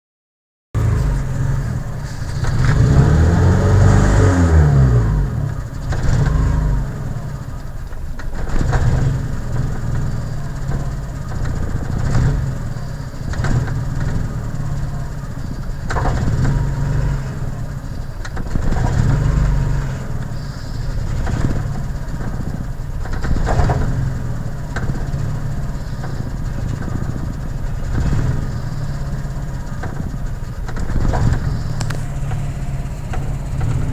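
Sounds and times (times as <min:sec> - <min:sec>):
car engine idling roughly: 0:00.8 - 0:33.9
engine revving: 0:00.8 - 0:33.9.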